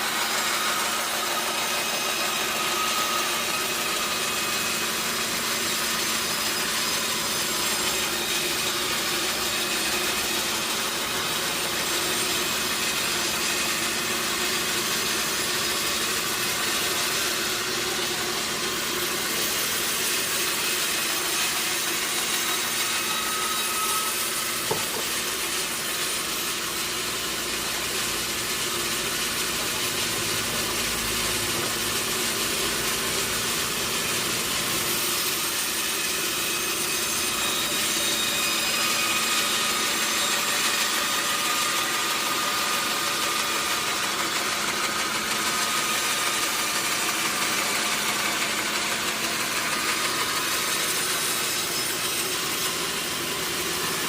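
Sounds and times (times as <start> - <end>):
saw cutting timber: 0.0 - 54.0.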